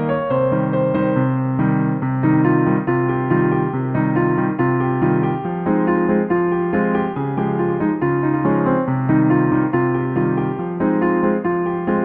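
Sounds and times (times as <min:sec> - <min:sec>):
piano piece: 0:00.0 - 0:12.0.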